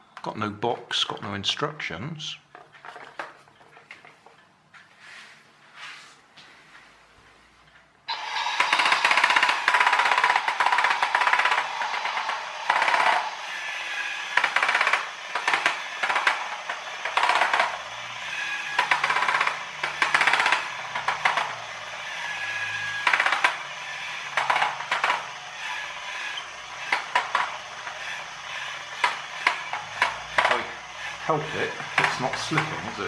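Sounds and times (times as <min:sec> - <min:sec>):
model engine gears clattering: 0:02.5 - 0:04.5, 0:08.1 - 0:33.0.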